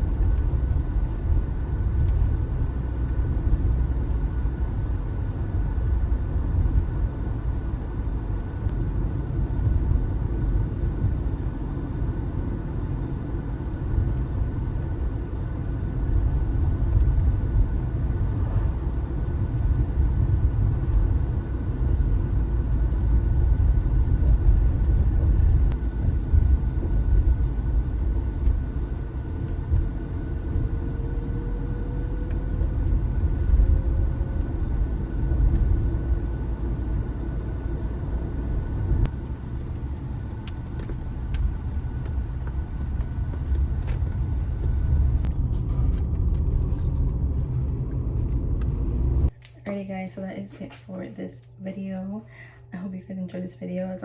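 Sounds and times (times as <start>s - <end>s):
car driving rumble: 0.0s - 49.9s.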